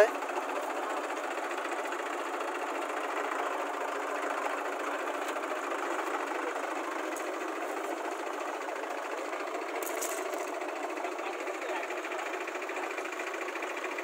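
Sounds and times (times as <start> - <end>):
diesel tractor engines idling: 0.0 - 14.0.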